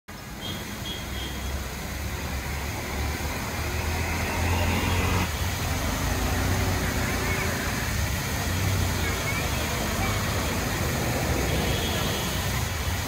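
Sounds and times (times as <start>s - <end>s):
fountain jets spraying: 0.1s - 13.0s
road traffic rumble: 0.1s - 13.0s
vehicle passing: 1.6s - 12.4s.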